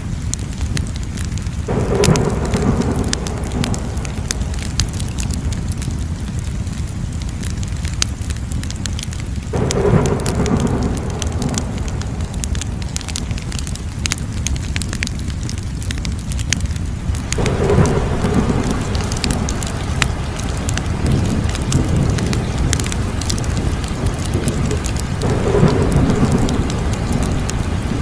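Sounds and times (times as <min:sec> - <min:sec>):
steady low rumble: 0:00.0 - 0:28.0
wood fire crackling and popping: 0:00.0 - 0:28.0.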